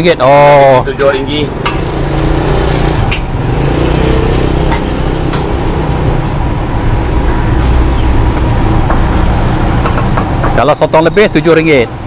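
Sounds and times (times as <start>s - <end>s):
wok burner rumble: 0.9s - 10.6s.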